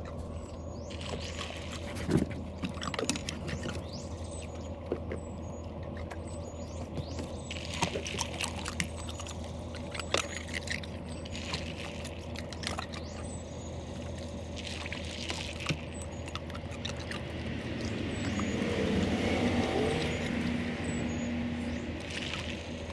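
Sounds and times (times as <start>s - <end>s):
dog licking and lapping: 0.0s - 20.6s, 22.0s - 22.9s.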